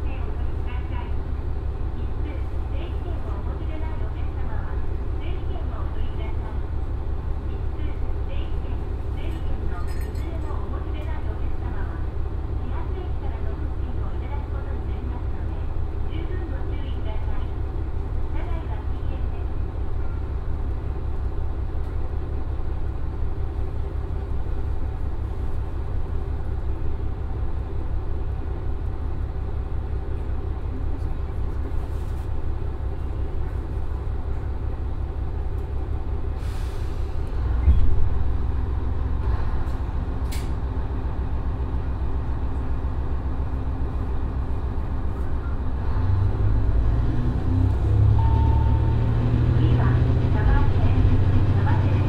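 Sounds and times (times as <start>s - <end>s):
diesel railcar engine idling: 0.0s - 52.0s.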